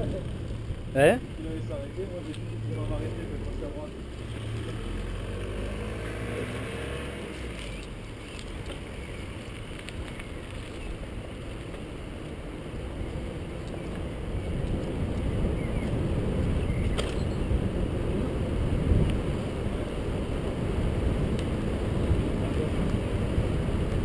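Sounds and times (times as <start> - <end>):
bike tyres rolling on asphalt: 0.0 - 24.0
wind rushing over camera: 0.0 - 24.0.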